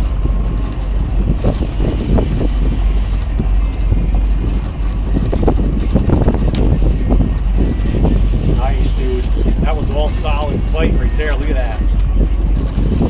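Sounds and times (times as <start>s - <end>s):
boat motor running: 0.0s - 13.0s
wind buffeting microphone: 0.0s - 13.0s.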